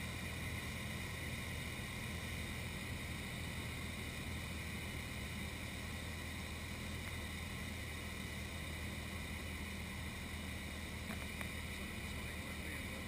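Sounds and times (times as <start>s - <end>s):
airplane engine droning in cabin: 0.0s - 13.0s.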